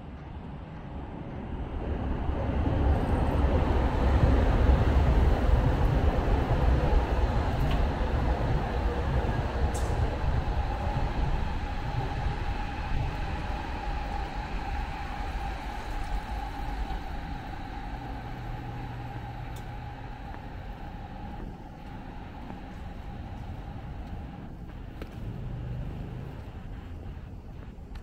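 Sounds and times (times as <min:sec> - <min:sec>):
train rumbling past: 0:00.0 - 0:28.0
steady whine: 0:01.7 - 0:28.0.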